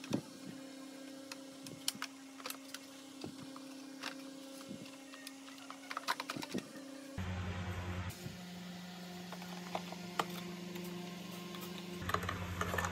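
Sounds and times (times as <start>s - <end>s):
steady hum: 0.0s - 12.9s.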